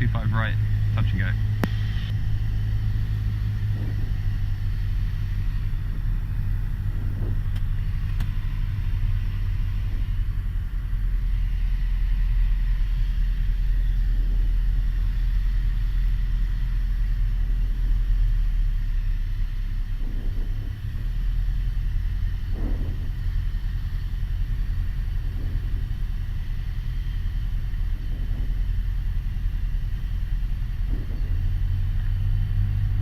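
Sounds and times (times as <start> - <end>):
aircraft engine droning: 0.0 - 33.0.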